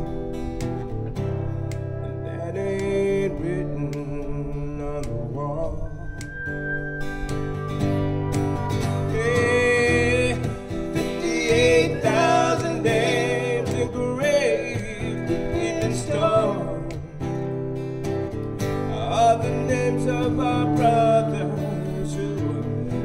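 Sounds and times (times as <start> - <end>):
pedal steel guitar melody: 0.0 - 23.0
strummed acoustic guitar: 0.0 - 23.0.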